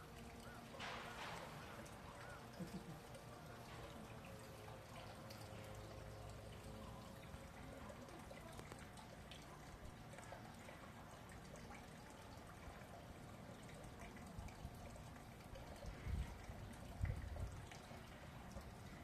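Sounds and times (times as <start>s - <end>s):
low steady background noise: 0.0s - 19.0s.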